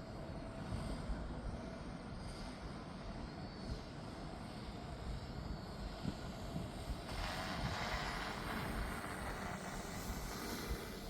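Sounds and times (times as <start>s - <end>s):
drone propellers whirring: 0.2s - 11.0s.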